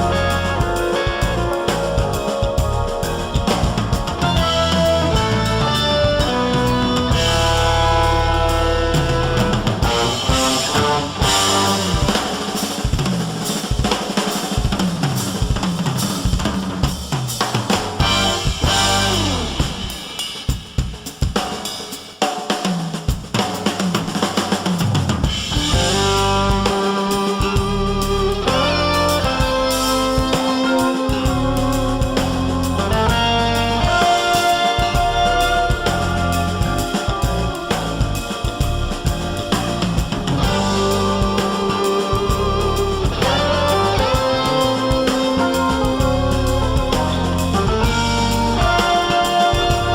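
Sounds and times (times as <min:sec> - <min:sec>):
band music with drum kit: 0:00.0 - 0:49.9.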